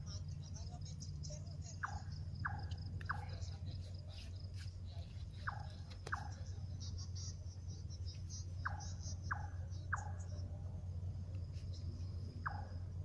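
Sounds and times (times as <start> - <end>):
insects chirring: 0.0 - 13.0
low steady hum: 0.0 - 13.0.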